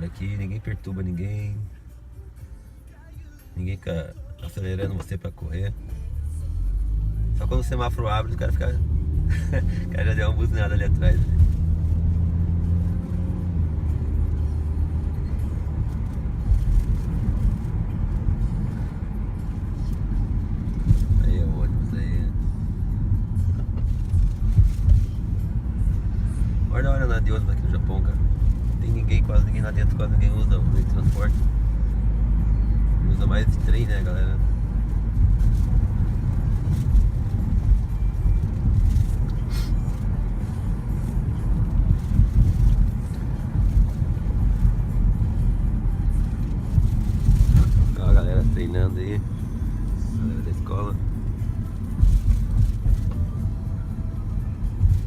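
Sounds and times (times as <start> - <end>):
road rumble: 0.0 - 55.0
vehicle engine running: 6.0 - 55.0.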